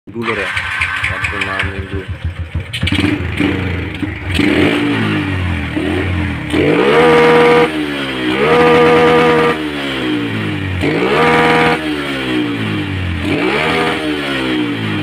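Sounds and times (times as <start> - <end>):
motorcycle engine revving: 0.2 - 15.0.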